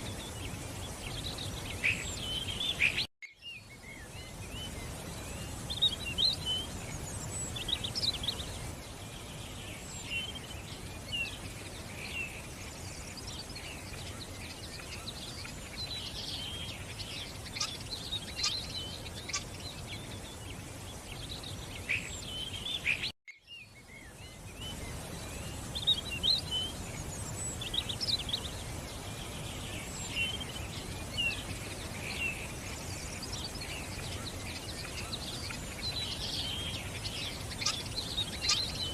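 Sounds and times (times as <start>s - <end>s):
birds chirping and singing: 0.0s - 38.9s
steady background hiss: 0.0s - 38.9s.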